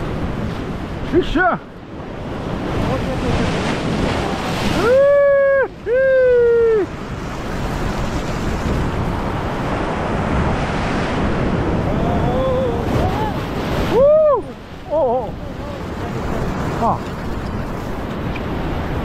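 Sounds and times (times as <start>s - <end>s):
surf washing over rocks: 0.0s - 19.0s
wind buffeting microphone: 0.0s - 19.0s.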